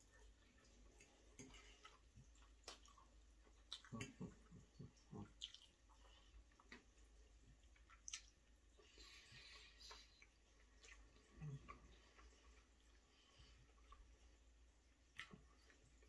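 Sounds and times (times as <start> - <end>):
man chewing with wet clicks: 0.0 - 16.0.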